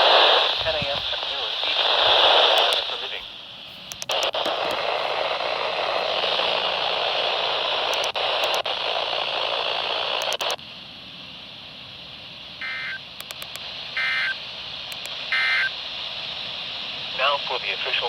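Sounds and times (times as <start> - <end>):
radio static hiss: 0.0 - 10.6, 12.6 - 18.0.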